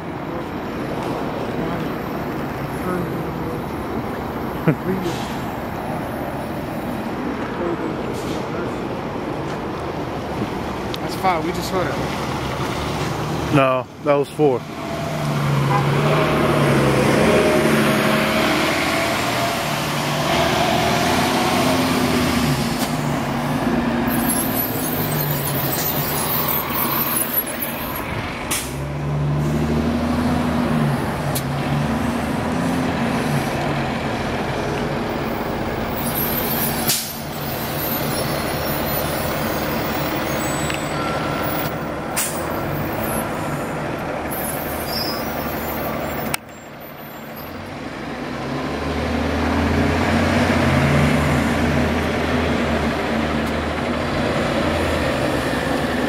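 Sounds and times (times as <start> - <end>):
bus engines running: 0.0 - 56.0.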